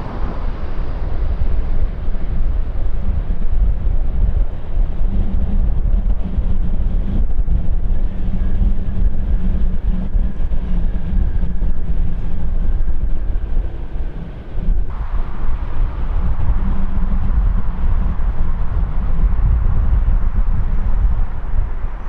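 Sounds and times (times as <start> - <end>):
faint high whine: 0.0 - 22.0
jet engines rumbling: 0.0 - 22.0.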